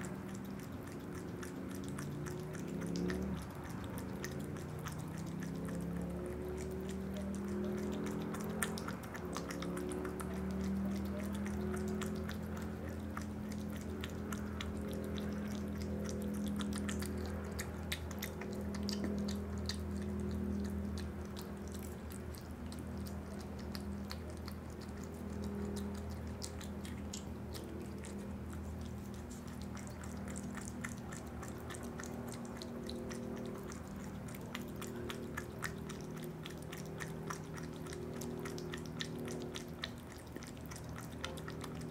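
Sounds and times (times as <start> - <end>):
animal lapping and chewing: 0.0 - 41.9
steady low hum: 0.0 - 41.9.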